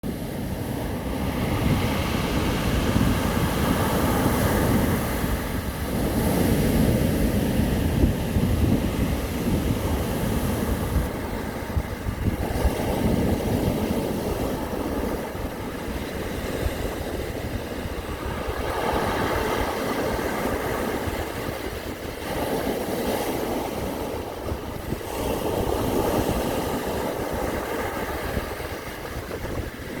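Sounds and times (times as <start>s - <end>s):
sea waves breaking: 0.1s - 30.0s.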